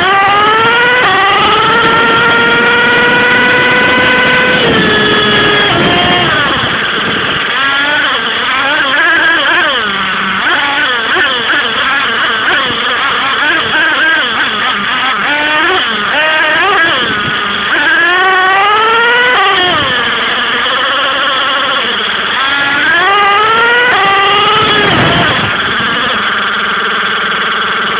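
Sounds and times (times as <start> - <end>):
kart engine revving: 0.0 - 27.9.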